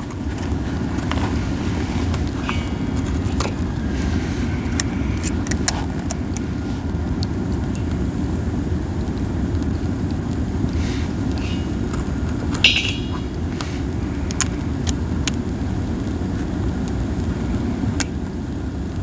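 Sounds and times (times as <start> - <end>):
campfire flames roaring: 0.0 - 19.0
fire crackling and popping: 0.0 - 19.0
wind: 0.0 - 19.0.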